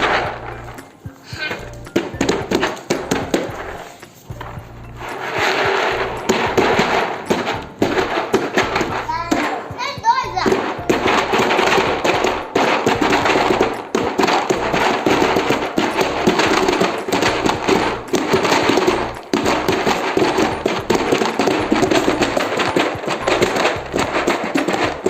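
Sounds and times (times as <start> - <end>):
beans rattling in ocean drum: 0.0 - 25.0.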